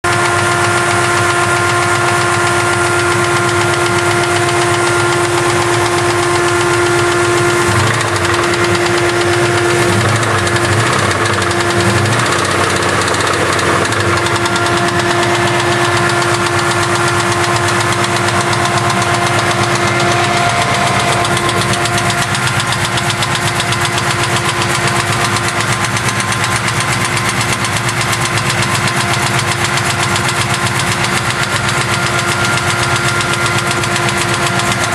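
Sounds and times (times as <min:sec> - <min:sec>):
engine idling: 0:00.0 - 0:34.9
rhythmic engine knock: 0:00.0 - 0:34.9.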